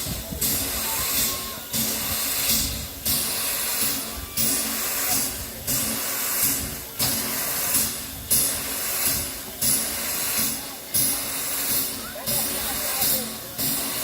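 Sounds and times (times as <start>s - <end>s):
steam locomotive exhaust chuffing: 0.0s - 14.0s.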